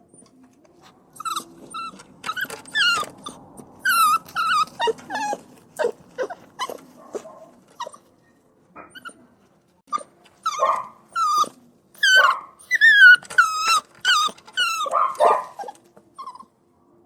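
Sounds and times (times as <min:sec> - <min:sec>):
puppies whining and yelping: 0:01.1 - 0:08.2, 0:09.9 - 0:16.6.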